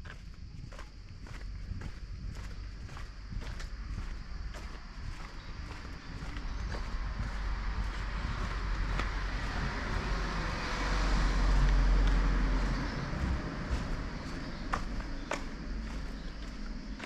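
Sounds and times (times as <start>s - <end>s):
street rumble and hiss: 0.0s - 17.0s.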